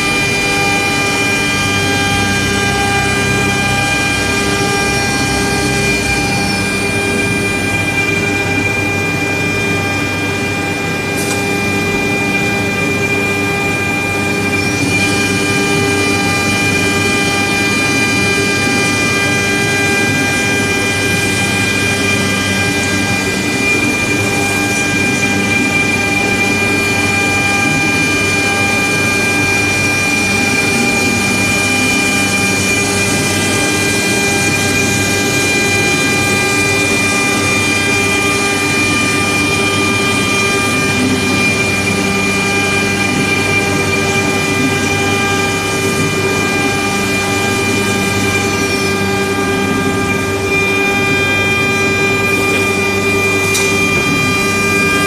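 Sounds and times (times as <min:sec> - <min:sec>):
continuous rushing noise: 0:00.0 - 0:55.0
router spindles whining: 0:00.0 - 0:55.0.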